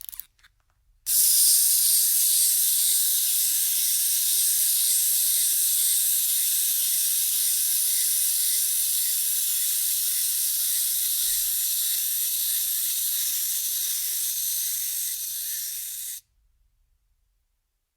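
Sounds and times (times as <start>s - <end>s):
clockwork toy whirring buzz: 1.1s - 16.2s.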